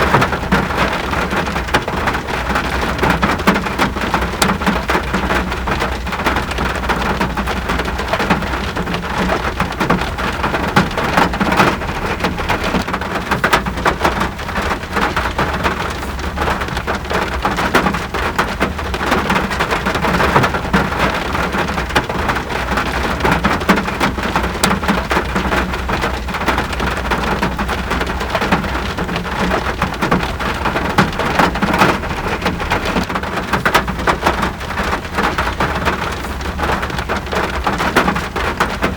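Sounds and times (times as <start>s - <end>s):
raindrop hits: 0.0s - 38.9s
rain hissing: 0.3s - 38.9s.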